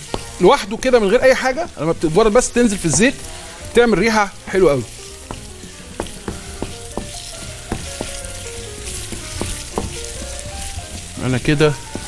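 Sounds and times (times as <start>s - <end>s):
sausage and onion sizzling: 0.0s - 12.0s
wooden spatula scraping a pan: 0.0s - 12.0s.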